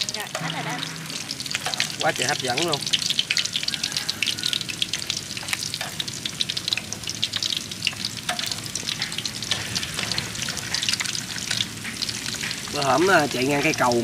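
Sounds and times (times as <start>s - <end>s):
fish frying in popping oil: 0.0s - 14.0s.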